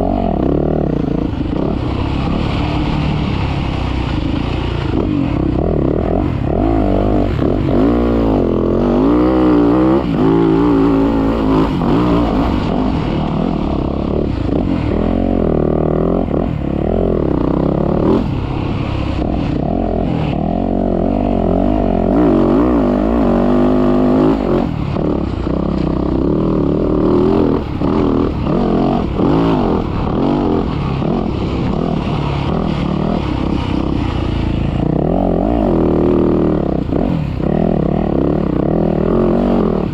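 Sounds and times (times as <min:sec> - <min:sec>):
constant low rumble: 0:00.0 - 0:39.9
dirt bike engine revving: 0:00.0 - 0:39.9.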